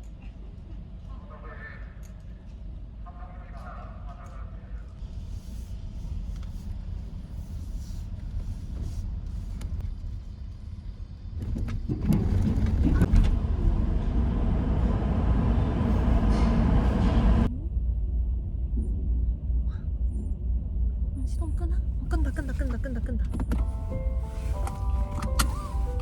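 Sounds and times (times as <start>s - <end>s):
vehicle engine rumble: 5.0s - 26.0s.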